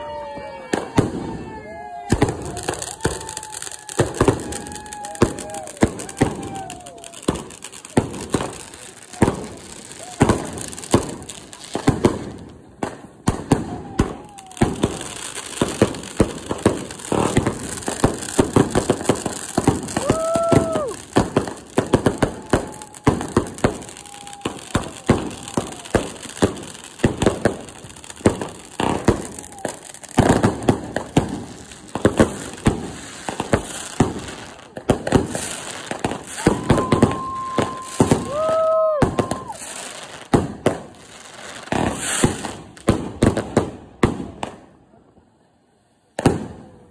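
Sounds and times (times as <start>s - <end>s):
firework whistles: 0.0s - 12.2s, 12.9s - 42.8s
fireworks crackling and popping: 0.0s - 46.9s.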